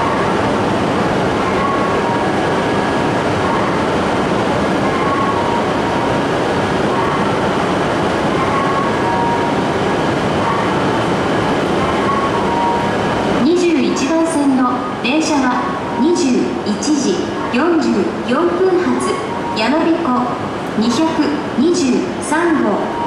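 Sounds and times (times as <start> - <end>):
train rushing hum: 0.0 - 23.0.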